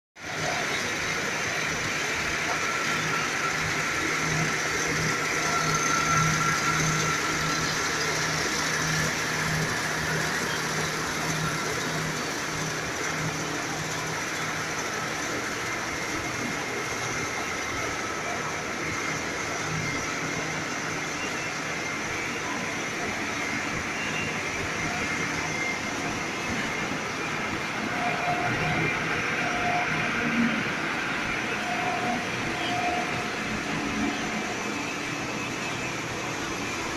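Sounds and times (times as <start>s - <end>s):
factory machinery running: 0.2s - 36.9s
high machine whines: 0.2s - 36.9s.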